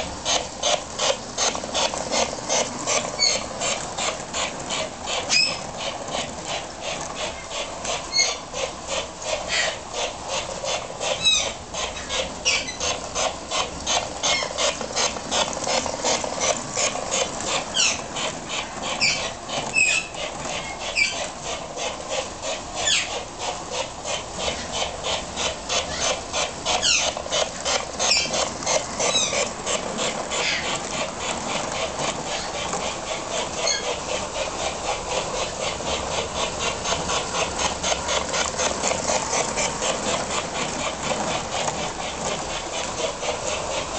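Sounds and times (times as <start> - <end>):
model steam locomotive chuffing: 0.0 - 43.9.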